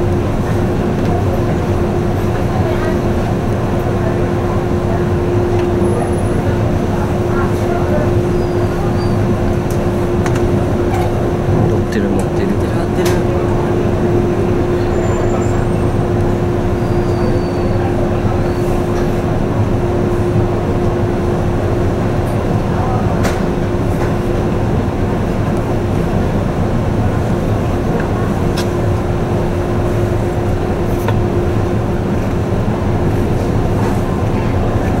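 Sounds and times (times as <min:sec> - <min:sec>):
ship engines humming: 0:00.0 - 0:35.0.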